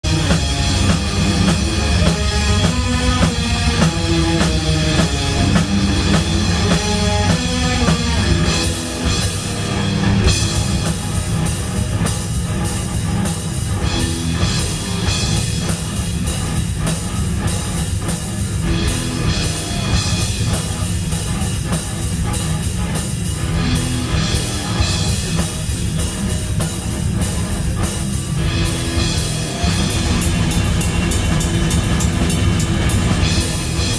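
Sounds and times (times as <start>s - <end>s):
instrumental heavy rock music: 0.0s - 33.9s.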